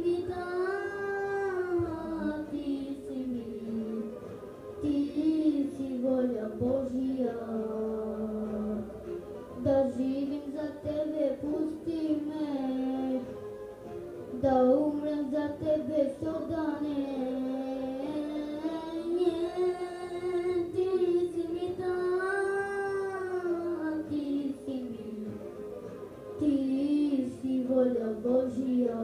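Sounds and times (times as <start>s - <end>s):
boy singing: 0.0s - 4.1s, 4.8s - 8.9s, 9.6s - 13.4s, 14.4s - 25.4s, 26.4s - 29.0s.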